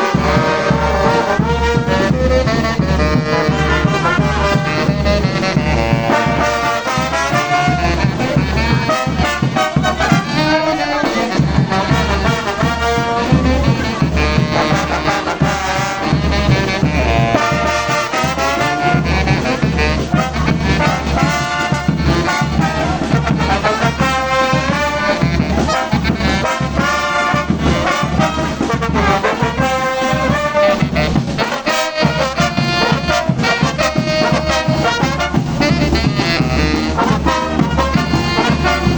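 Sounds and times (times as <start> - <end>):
brass orchestra playing: 0.0 - 38.9
steady drum beat: 0.0 - 38.9.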